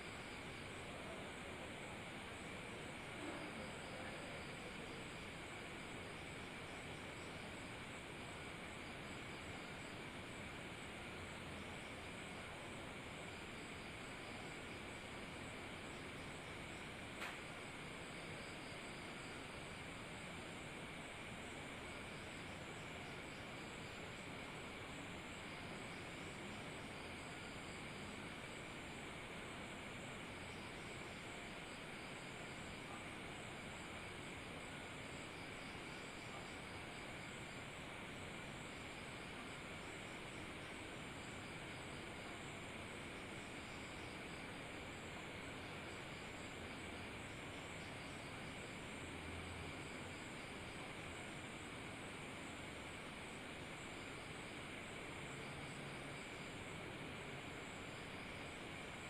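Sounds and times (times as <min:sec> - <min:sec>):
faint low hum: 0:00.0 - 0:59.0
faint steady hiss: 0:00.0 - 0:59.0.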